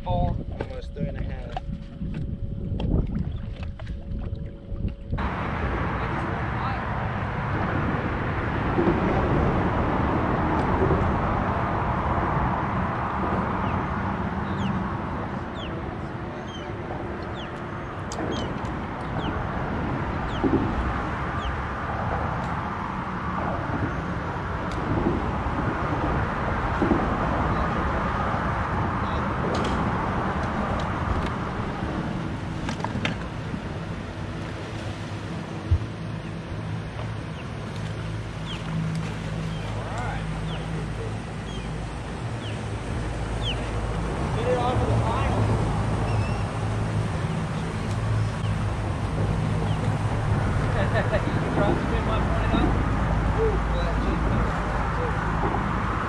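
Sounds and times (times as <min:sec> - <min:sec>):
traffic rumbling over bridge: 0:05.0 - 0:56.0.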